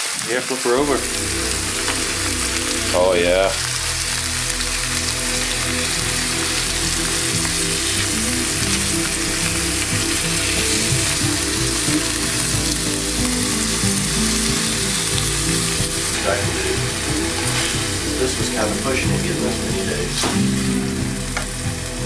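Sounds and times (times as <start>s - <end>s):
steaks sizzling in a skillet: 1.0s - 22.0s.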